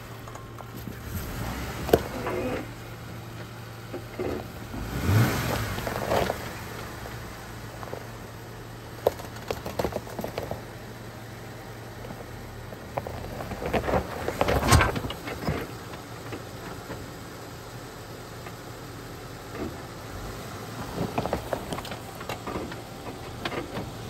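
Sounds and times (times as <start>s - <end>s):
engine running low: 0.0s - 24.0s
tires crunching over gravel: 0.0s - 24.0s.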